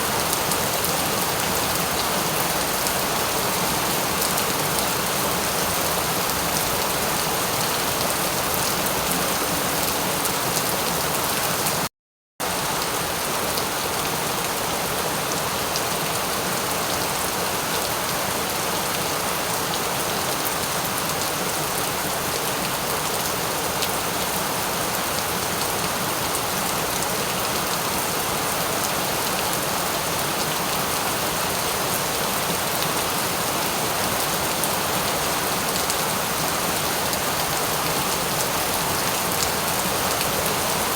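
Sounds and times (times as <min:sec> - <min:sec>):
rain pattering on a surface: 0:00.1 - 0:40.9.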